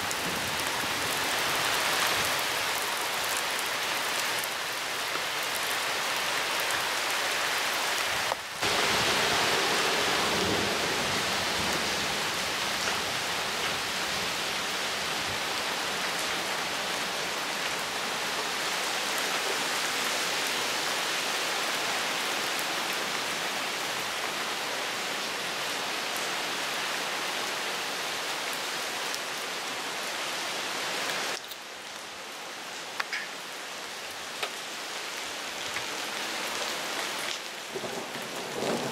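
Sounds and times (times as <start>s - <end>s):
heavy rain on paving and foliage: 0.0s - 38.9s.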